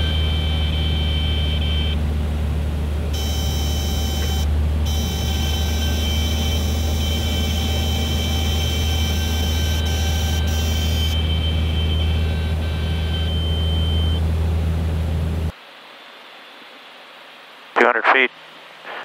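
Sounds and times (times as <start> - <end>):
airplane engine drone in cockpit: 0.0 - 15.6.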